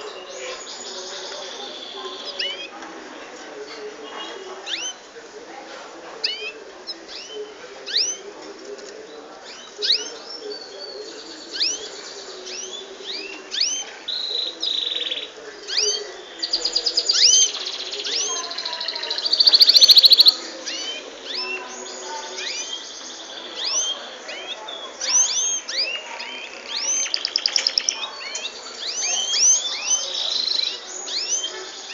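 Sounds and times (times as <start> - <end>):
small birds chirping: 0.0 - 5.2, 6.2 - 31.9.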